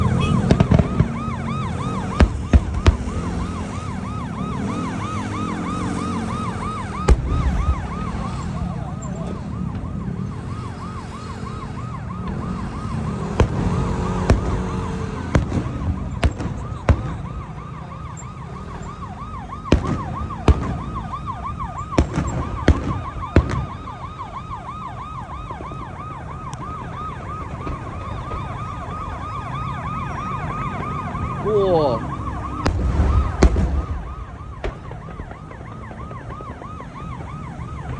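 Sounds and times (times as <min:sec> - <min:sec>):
fast-warbling electronic siren: 0:00.0 - 0:37.9
fireworks bangs: 0:00.0 - 0:37.9
low traffic rumble: 0:00.0 - 0:37.9.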